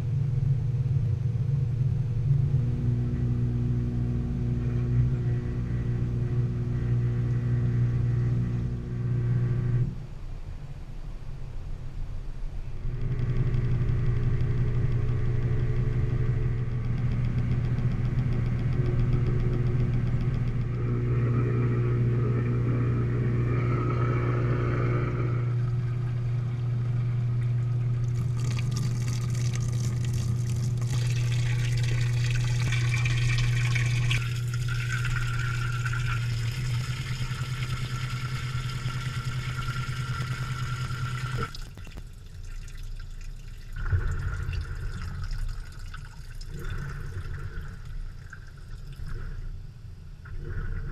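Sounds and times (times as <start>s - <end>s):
washer motor hum: 0.0s - 10.7s, 11.9s - 50.9s.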